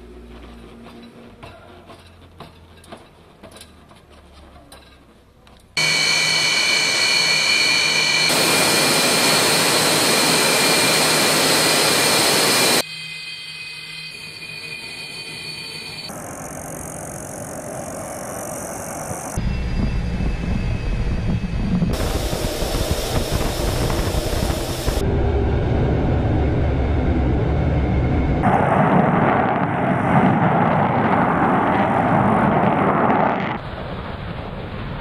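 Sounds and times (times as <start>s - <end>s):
jet engines roaring with whine: 5.8s - 35.0s.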